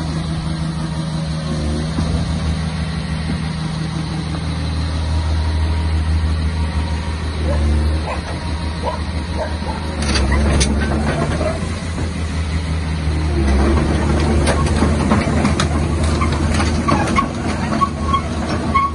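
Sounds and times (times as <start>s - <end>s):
excavator diesel engine idling: 0.0s - 18.9s.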